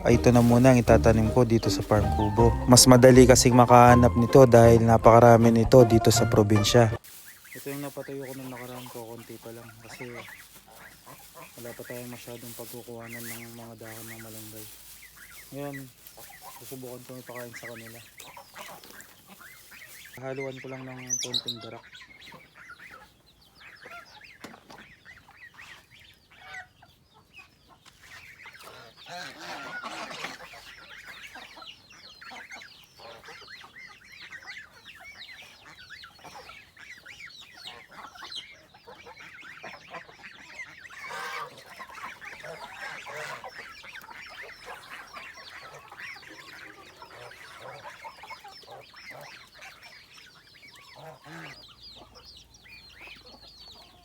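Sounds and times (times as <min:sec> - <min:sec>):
poultry calling: 0:00.0 - 0:54.0.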